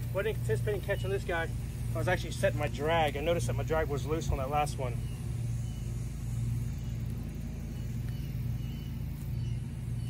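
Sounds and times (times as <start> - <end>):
pulsing low hum: 0.0 - 10.0.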